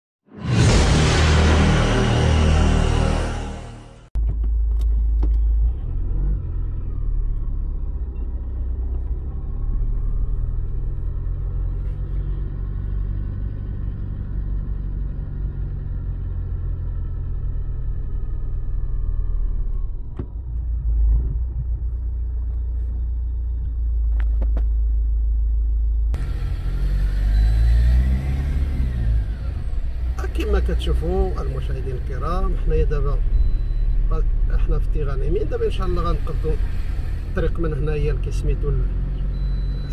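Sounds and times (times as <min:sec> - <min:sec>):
car driving rumble: 0:00.4 - 0:39.9
faint engine whine: 0:00.5 - 0:39.9.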